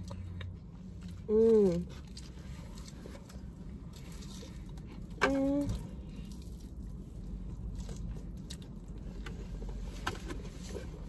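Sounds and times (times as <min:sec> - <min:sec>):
biting and chewing crispy food: 0:00.0 - 0:11.0.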